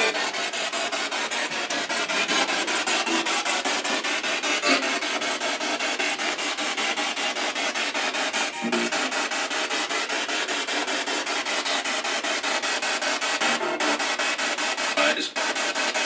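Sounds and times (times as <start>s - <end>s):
radio static chopping: 0.0s - 16.0s
snatches of broadcast sound: 0.0s - 16.0s.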